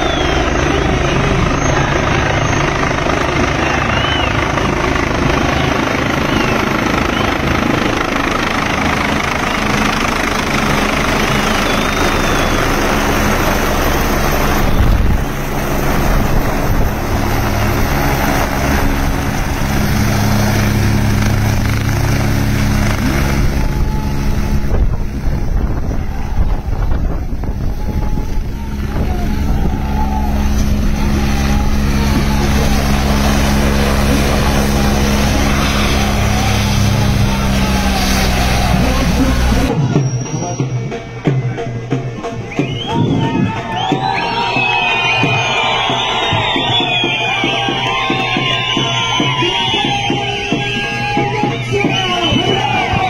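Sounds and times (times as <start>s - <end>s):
helicopter rotor and engine: 0.0s - 40.2s, 42.3s - 53.0s.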